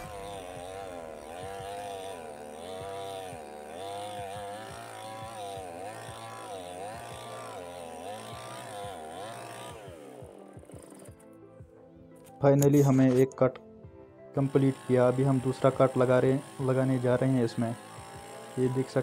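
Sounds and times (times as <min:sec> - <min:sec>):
chainsaw cutting through log: 0:00.0 - 0:11.6, 0:12.2 - 0:13.5, 0:14.3 - 0:19.0.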